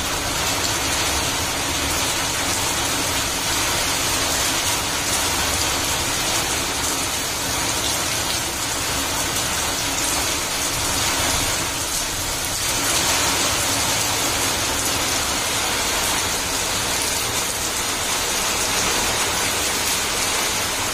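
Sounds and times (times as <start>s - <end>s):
rain on wet concrete: 0.0s - 20.9s
rain splashing into puddles: 0.0s - 20.9s.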